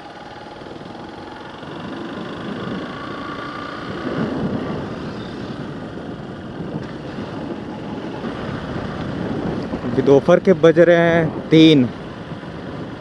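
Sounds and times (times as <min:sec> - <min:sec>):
motorcycle engine running: 0:00.0 - 0:13.0
wind on microphone: 0:00.6 - 0:13.0.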